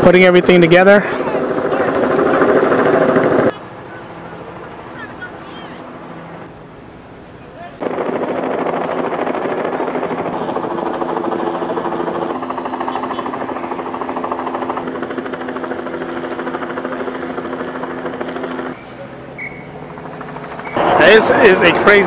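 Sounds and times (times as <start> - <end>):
helicopter flying overhead: 0.0 - 22.0.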